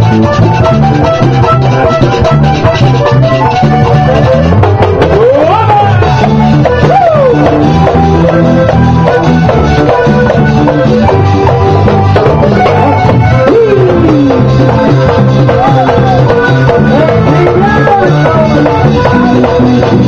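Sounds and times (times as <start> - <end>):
button accordion: 0.0 - 20.0
heavy bass line: 0.0 - 20.0
steady drum beat: 0.0 - 20.0.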